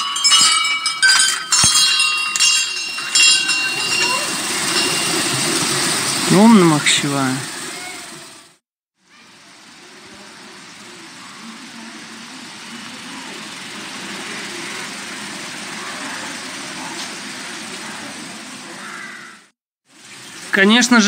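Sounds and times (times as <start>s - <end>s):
steady outdoor rushing noise: 0.0s - 8.6s, 9.3s - 21.0s.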